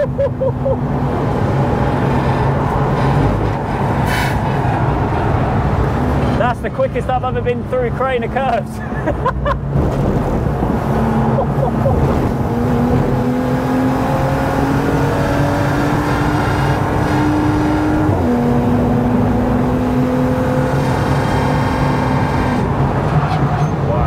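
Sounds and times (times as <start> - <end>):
car engine under full throttle: 0.0 - 24.0.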